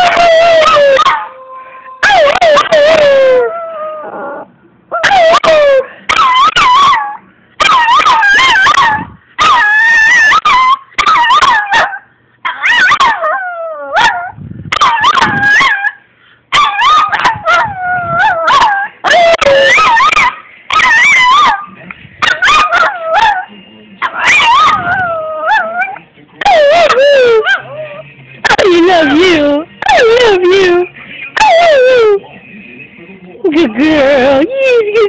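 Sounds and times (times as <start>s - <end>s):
puppy howling: 0.0s - 16.0s, 16.6s - 30.8s, 31.4s - 32.3s.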